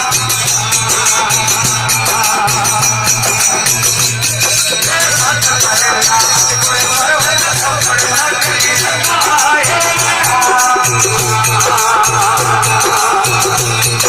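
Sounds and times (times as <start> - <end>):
jingling shaken percussion: 0.0 - 14.0
person singing devotional song: 0.0 - 14.0.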